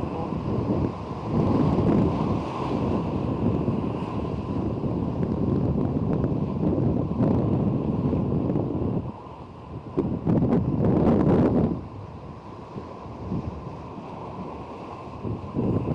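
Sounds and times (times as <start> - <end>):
strong wind buffeting microphone: 0.0 - 15.9.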